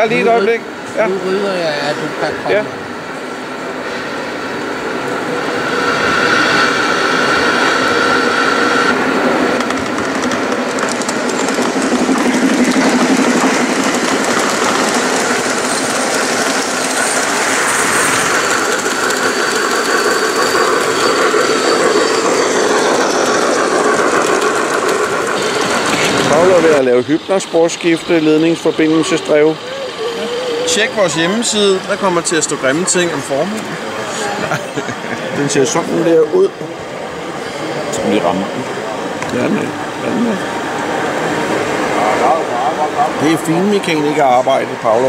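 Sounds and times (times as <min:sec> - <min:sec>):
model trains rolling on rails: 0:00.0 - 0:45.0.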